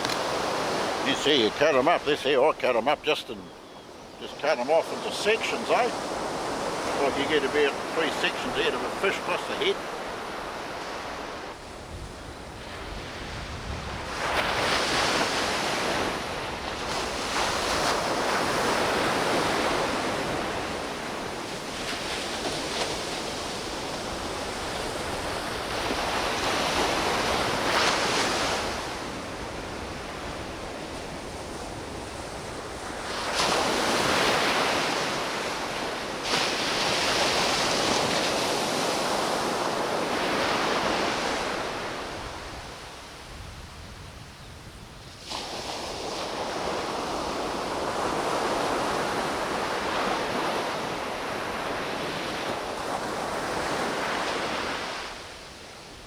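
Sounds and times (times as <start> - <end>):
ocean surf breaking: 0.0 - 43.3, 45.2 - 55.4.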